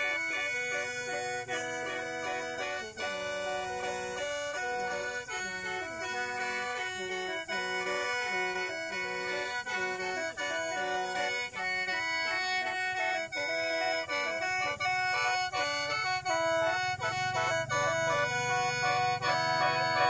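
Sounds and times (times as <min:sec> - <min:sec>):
free-reed mouth organ melody: 0:00.0 - 0:20.0
held drone notes: 0:00.0 - 0:20.0.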